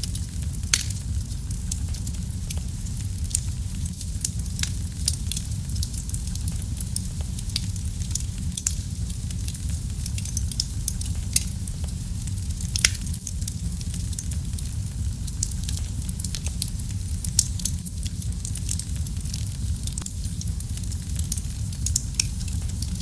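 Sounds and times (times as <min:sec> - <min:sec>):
fire crackling in a fireplace: 0:00.0 - 0:23.0.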